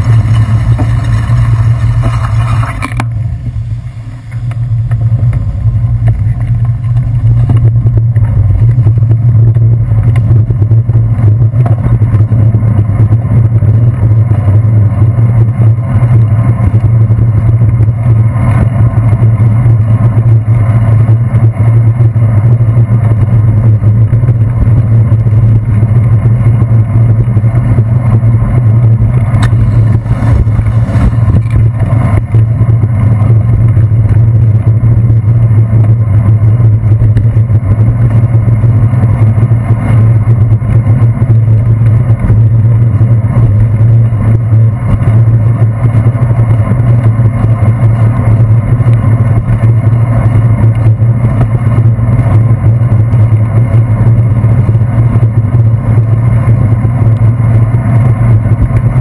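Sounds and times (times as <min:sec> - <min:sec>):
car traffic: 0:00.0 - 0:59.0
wind rumble: 0:00.0 - 0:59.0.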